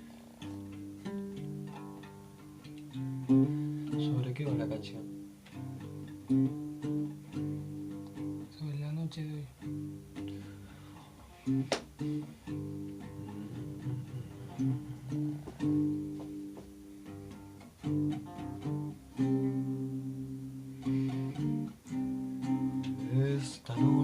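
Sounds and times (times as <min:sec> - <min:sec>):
guitar strumming and picking: 0:00.0 - 0:08.8, 0:09.4 - 0:24.0.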